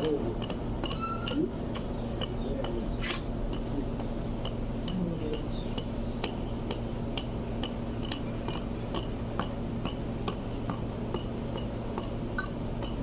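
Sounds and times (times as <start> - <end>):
machinery hum and drone: 0.0 - 13.0.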